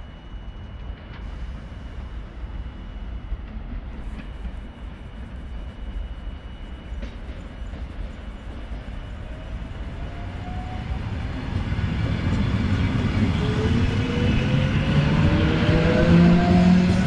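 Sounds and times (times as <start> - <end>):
low rolling rumble of train: 0.0 - 17.0.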